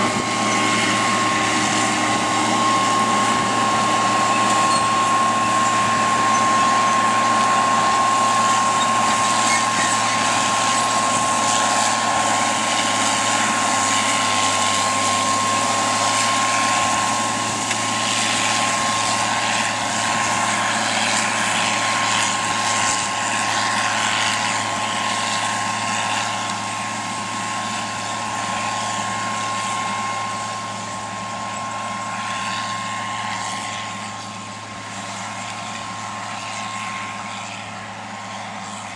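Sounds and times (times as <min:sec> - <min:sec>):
steady high whine: 0:00.0 - 0:38.9
tractor diesel engine running: 0:00.0 - 0:38.9.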